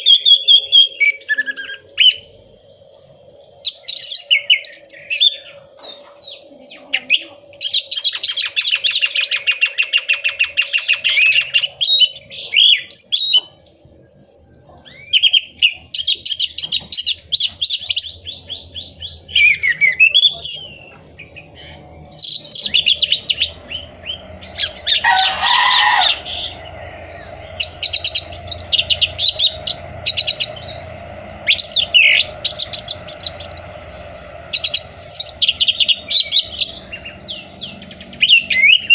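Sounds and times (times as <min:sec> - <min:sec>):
thrush singing whistled phrases: 0:00.0 - 0:05.7, 0:07.0 - 0:38.9
faint steady hum: 0:00.0 - 0:38.9.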